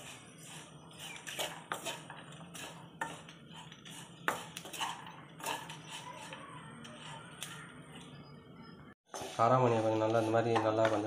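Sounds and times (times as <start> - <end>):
wooden spatula scraping pan: 0.0 - 8.3, 9.1 - 11.0.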